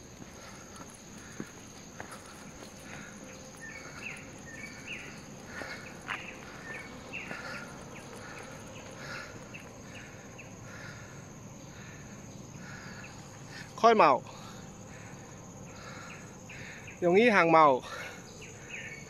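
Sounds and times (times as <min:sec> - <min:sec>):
insect chirping calls: 0:00.0 - 0:19.0
insects droning: 0:00.0 - 0:19.0.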